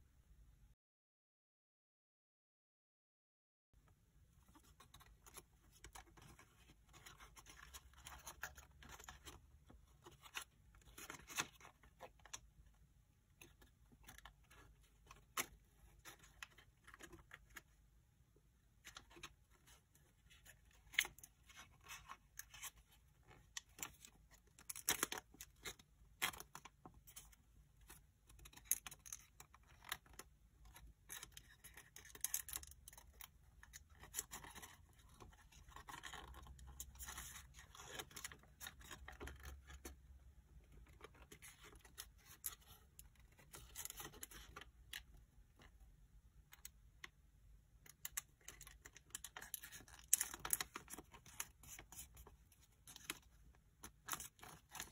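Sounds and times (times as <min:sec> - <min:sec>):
paper crinkling and rustling: 0:04.4 - 0:17.8, 0:18.8 - 0:45.7, 0:47.9 - 0:54.9.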